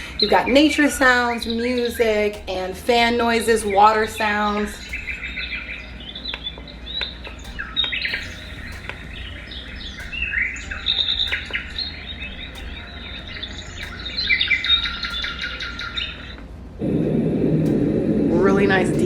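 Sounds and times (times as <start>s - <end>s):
bird chirps and twitters: 0.0s - 16.6s
steady low hum: 0.0s - 19.0s.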